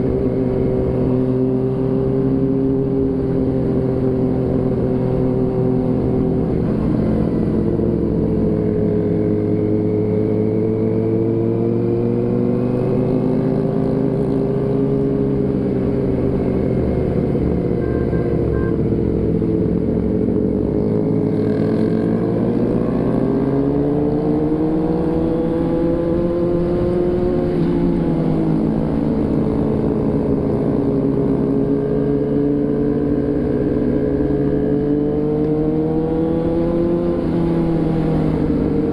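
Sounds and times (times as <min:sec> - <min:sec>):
road and wind rumble: 0:00.0 - 0:38.9.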